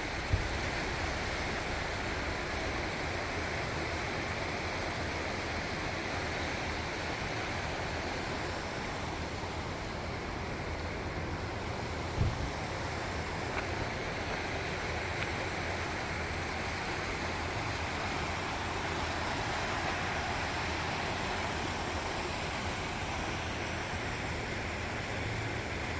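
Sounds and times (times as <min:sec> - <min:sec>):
river rushing: 0:00.0 - 0:25.9.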